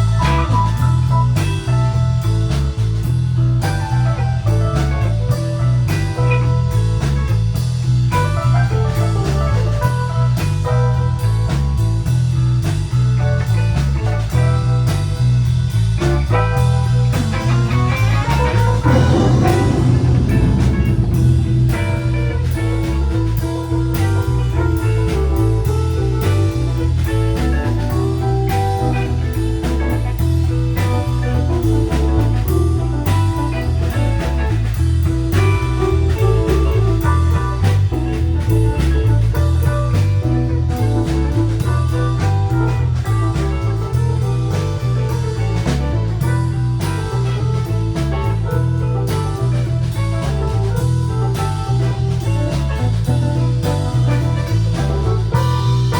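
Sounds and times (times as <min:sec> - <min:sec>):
blues-rock music with electric guitar: 0:00.0 - 0:55.9.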